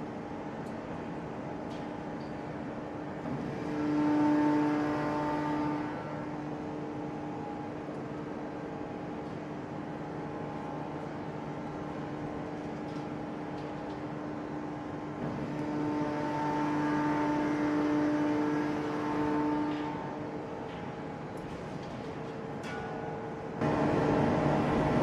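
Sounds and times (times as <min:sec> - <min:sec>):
industrial machine hum: 0:00.0 - 0:25.0.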